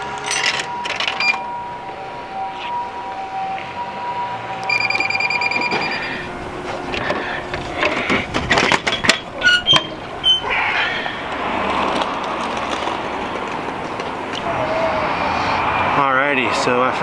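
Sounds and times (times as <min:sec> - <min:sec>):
vending machine beeping: 0:00.0 - 0:15.3.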